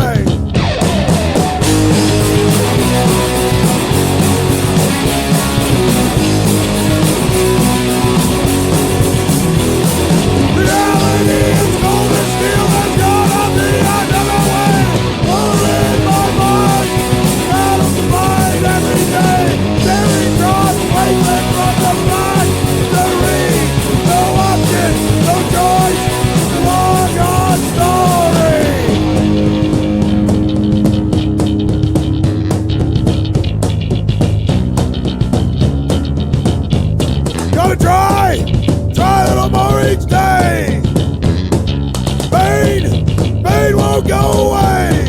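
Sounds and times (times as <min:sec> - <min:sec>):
bass guitar: 0:00.0 - 0:45.0
bending lead guitar melody: 0:00.0 - 0:45.0
distorted electric guitars: 0:00.0 - 0:45.0
drums: 0:00.0 - 0:45.0.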